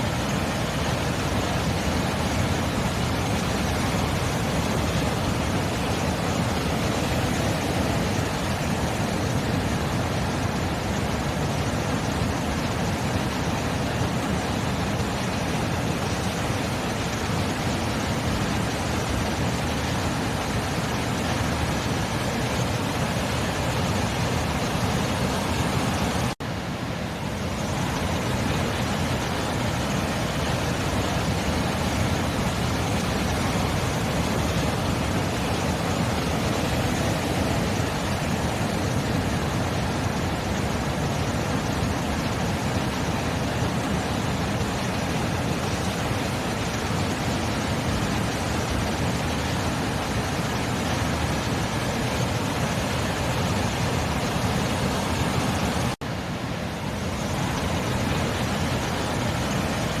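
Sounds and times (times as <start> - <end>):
sea surf rushing: 0.0 - 60.0.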